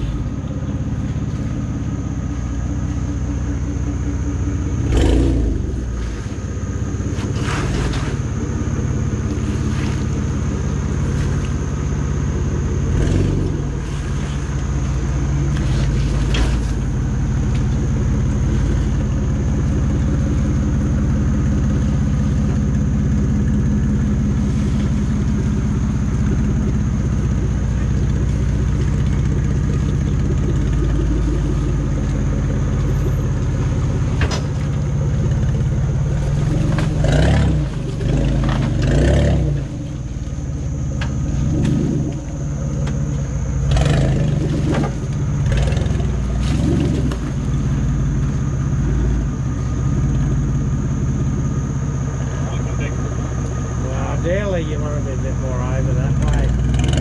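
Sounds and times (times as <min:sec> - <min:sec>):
engine running and revving: 0:00.0 - 0:57.0.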